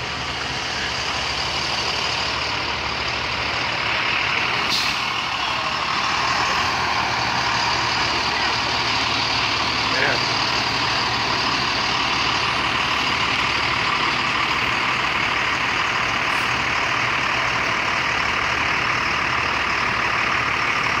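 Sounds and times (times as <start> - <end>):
diesel truck engine running: 0.0 - 21.0
tyres hissing on wet road: 0.0 - 21.0.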